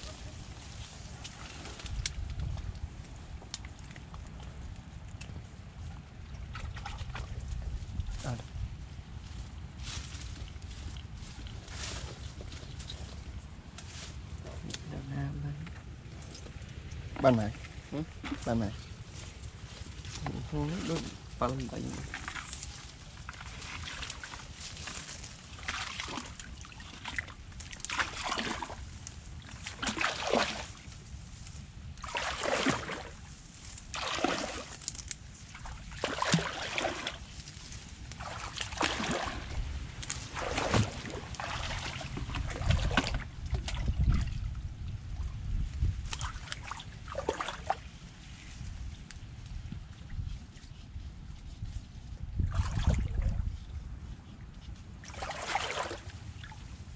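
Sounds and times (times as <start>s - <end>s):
wading through muddy water: 0.0s - 56.9s.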